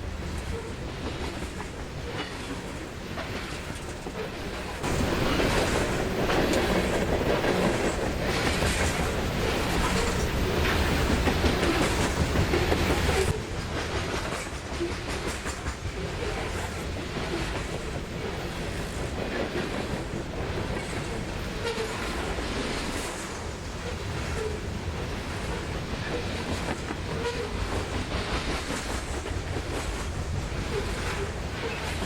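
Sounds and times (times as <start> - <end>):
freight train wheels clacking: 0.0 - 32.0.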